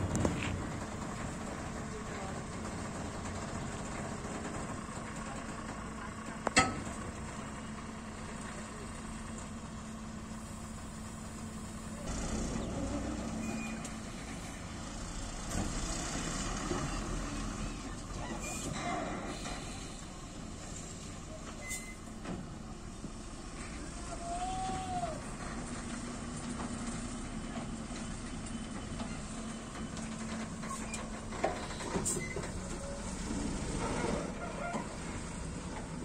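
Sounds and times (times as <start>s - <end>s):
diesel truck engine running: 0.0s - 36.0s.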